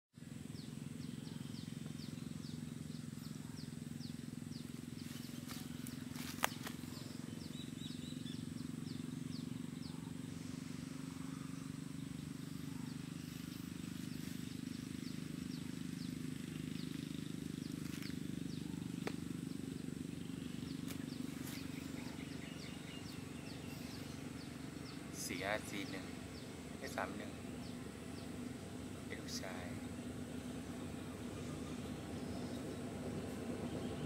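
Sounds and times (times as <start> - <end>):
diesel locomotive engine droning: 0.2 - 34.0.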